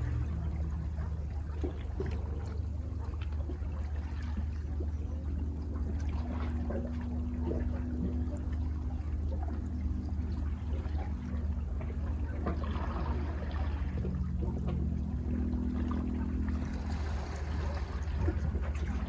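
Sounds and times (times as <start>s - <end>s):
low rumble of surf: 0.0s - 19.0s
small splashes: 0.0s - 19.0s.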